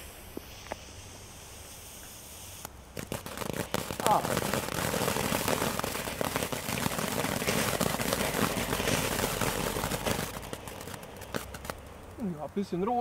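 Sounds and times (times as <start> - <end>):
firework sparks hissing and crackling: 0.0 - 13.0.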